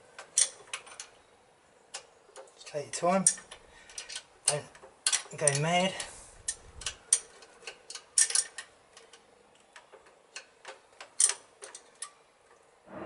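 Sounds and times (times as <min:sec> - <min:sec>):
spanner clicking on metal nuts: 0:00.2 - 0:01.2, 0:01.9 - 0:12.2.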